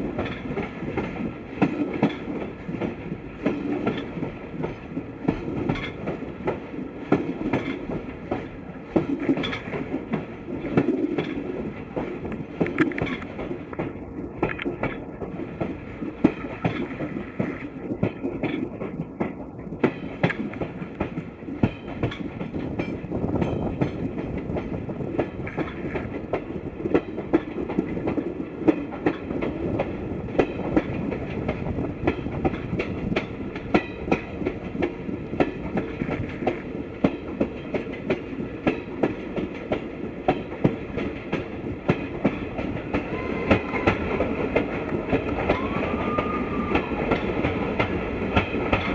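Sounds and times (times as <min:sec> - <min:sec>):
train rumbling along track: 0:00.0 - 0:48.9
wheels clacking over rail joints: 0:00.0 - 0:48.9.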